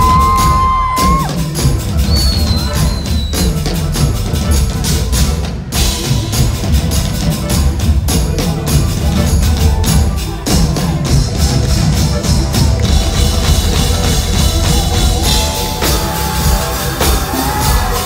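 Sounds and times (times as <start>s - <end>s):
driving drum kit: 0.0s - 18.0s
live pop band playing: 0.0s - 18.0s.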